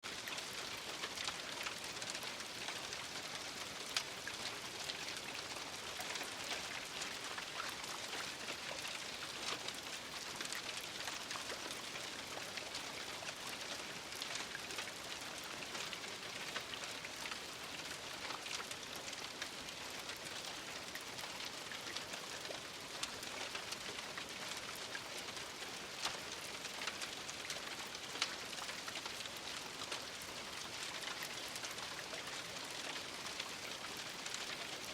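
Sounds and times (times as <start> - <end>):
steady rain hiss: 0.0 - 34.9
raindrops ticking: 0.1 - 34.9.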